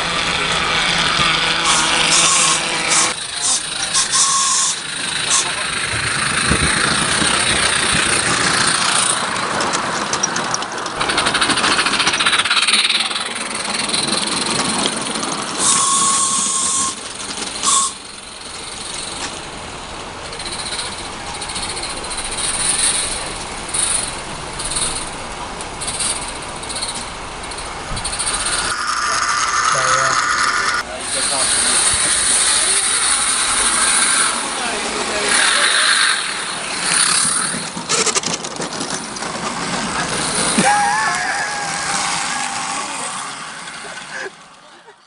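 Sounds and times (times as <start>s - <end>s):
steam locomotive hissing: 0.0s - 45.0s.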